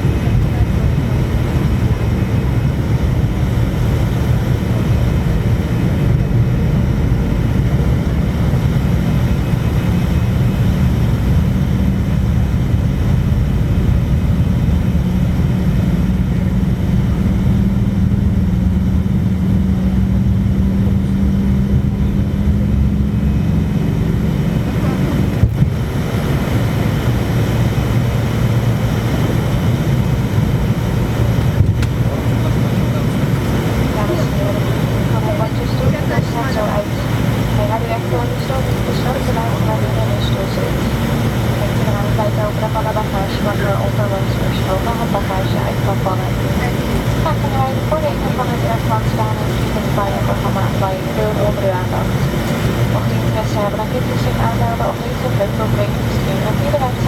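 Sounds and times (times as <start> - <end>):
jet engines rushing: 0.0 - 57.0
low cabin hum: 0.0 - 57.0.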